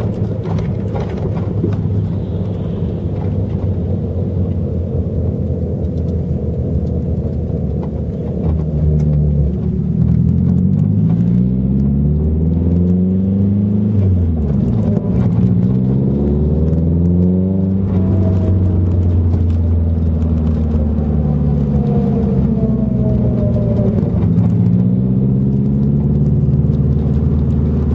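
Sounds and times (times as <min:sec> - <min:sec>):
car engine accelerating: 0:00.0 - 0:27.9
differential whining and grinding: 0:00.0 - 0:27.9.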